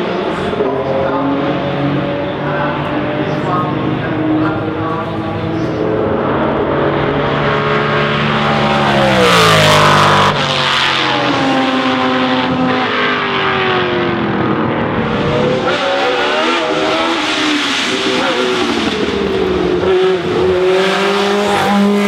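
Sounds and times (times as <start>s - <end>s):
racing car engines: 0.0s - 22.0s
racing car passing close: 0.0s - 22.0s.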